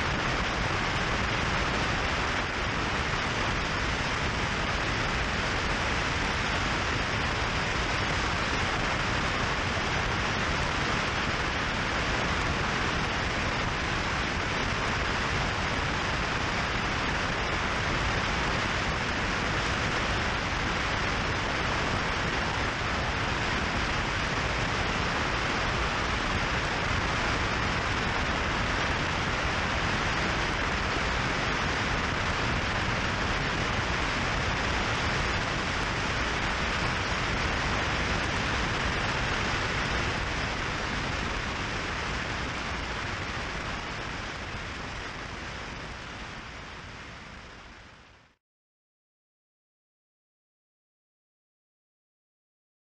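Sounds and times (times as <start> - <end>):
wind rushing on microphone: 0.0 - 47.5.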